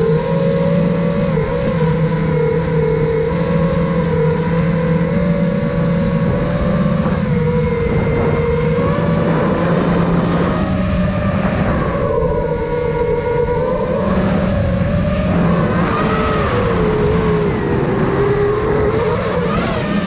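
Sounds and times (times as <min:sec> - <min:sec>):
quadcopter motors whining: 0:00.0 - 0:20.0
wind rushing over microphone: 0:00.0 - 0:20.0.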